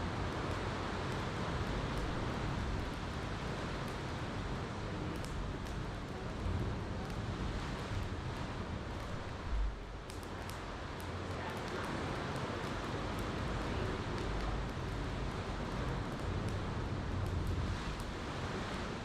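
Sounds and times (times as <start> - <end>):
campfire crackling: 0.0 - 19.0
wind: 0.0 - 19.0.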